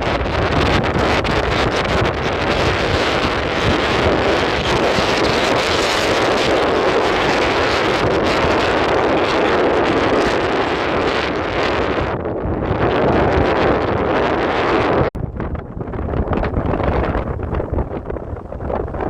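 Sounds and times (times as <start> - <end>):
heavy wind on microphone: 0.0 - 19.0.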